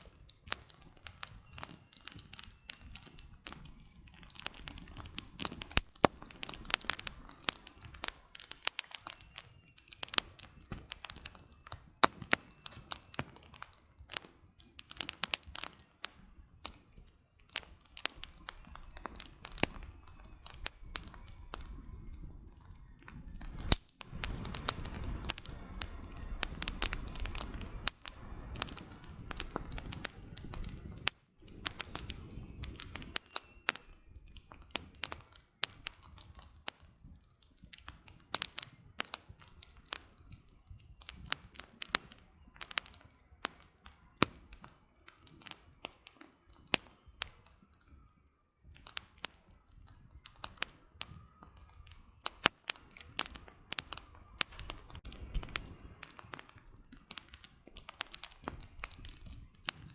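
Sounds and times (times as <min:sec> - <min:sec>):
flames rushing: 0:00.0 - 0:47.5, 0:48.6 - 0:59.9
wood fire crackling: 0:00.0 - 0:59.9.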